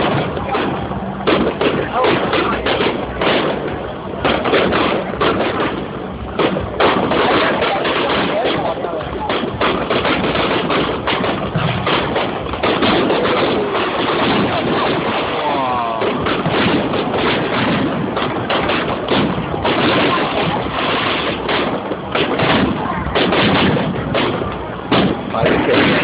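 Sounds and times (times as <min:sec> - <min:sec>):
crowd voices: 0:00.0 - 0:26.0
fireworks bangs and crackles: 0:00.0 - 0:26.0.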